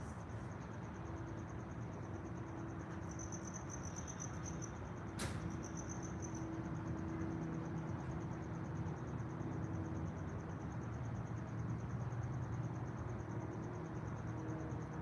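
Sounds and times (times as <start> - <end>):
cricket chirping trill: 0.0 - 15.0.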